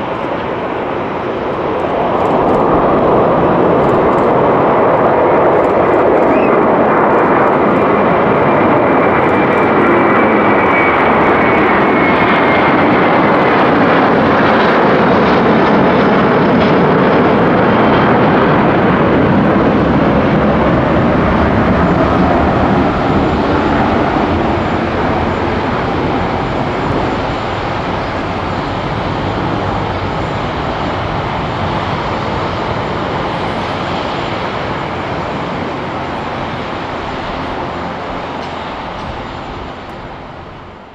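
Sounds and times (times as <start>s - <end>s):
jet engine roar with whine: 0.0s - 40.9s.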